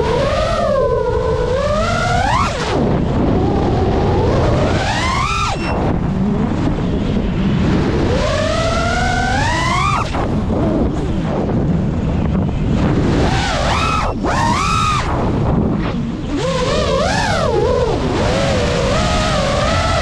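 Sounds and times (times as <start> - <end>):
drone motors whining: 0.0 - 20.0
wind rushing on microphone: 0.0 - 20.0.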